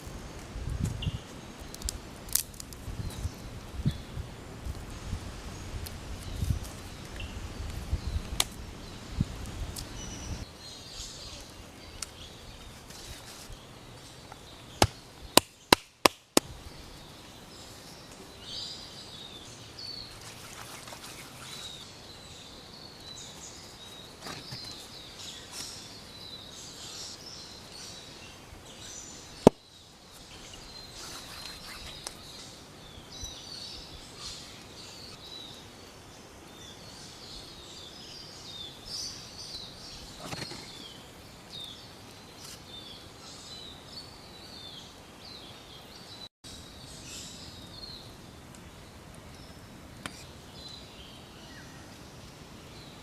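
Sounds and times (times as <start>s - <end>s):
small birds chirping: 0.0s - 15.8s, 16.4s - 53.0s.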